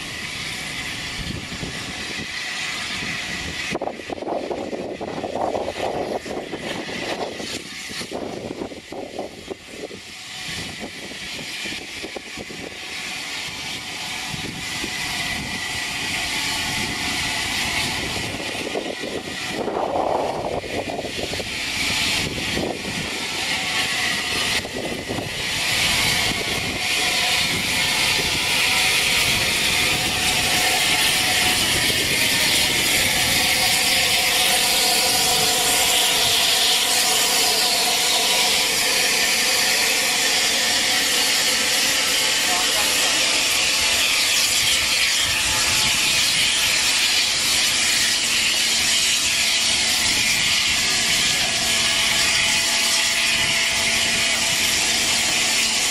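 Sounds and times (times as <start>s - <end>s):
steam locomotive hissing and rumbling: 0.0s - 55.9s.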